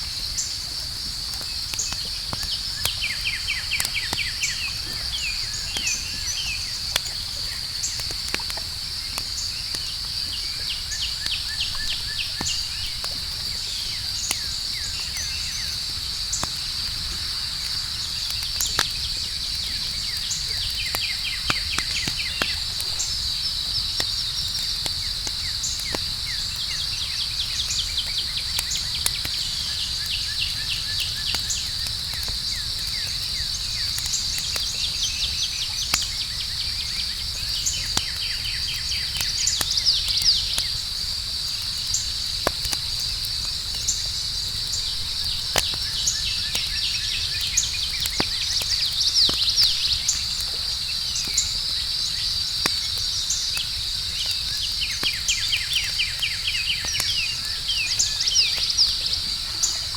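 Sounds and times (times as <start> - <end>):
campfire crackling: 0.0 - 59.9
cricket trill: 0.0 - 59.9
insects chirping: 0.0 - 59.9
fire popping: 0.1 - 59.9.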